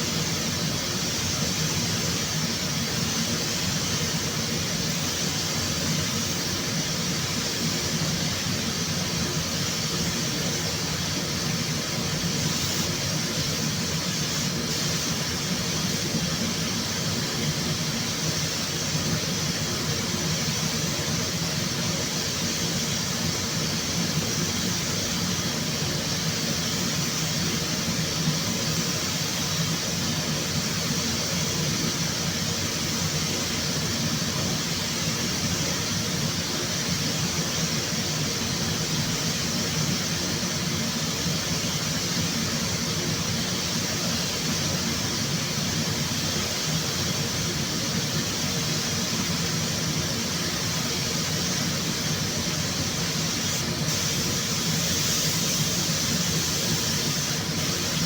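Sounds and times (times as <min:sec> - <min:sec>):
machine hiss: 0:00.0 - 0:58.0.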